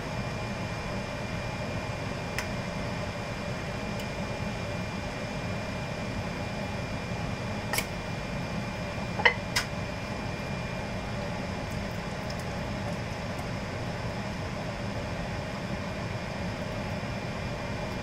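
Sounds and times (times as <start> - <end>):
fan-like hum: 0.0 - 18.0.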